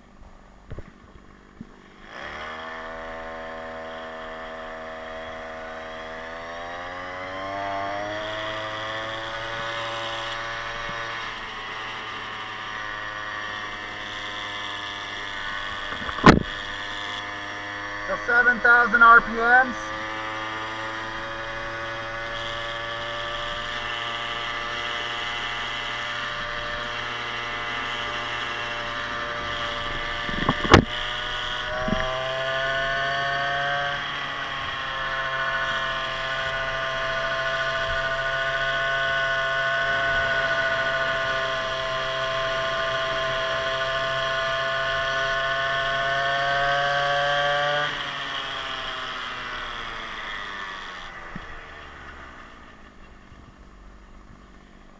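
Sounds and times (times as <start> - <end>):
scooter engine at high revs: 0.0 - 54.9.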